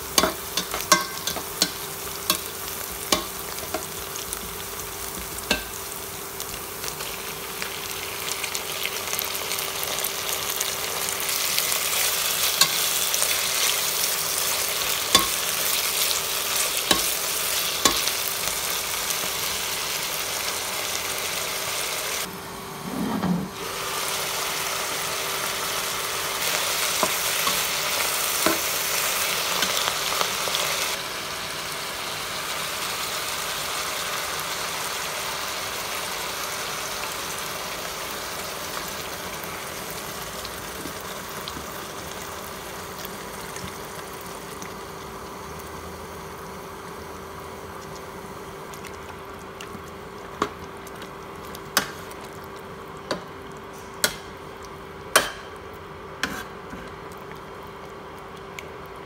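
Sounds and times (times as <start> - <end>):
food sizzling in a frying pan: 0.0 - 57.9.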